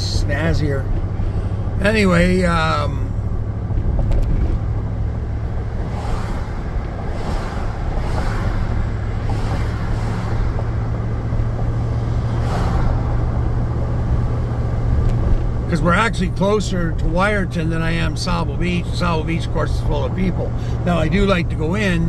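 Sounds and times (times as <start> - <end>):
engine and tyre hum: 0.0 - 22.0.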